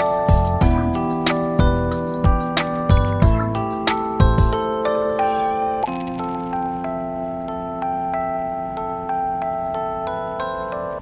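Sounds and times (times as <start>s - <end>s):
slow bell-like melody: 0.0s - 11.0s.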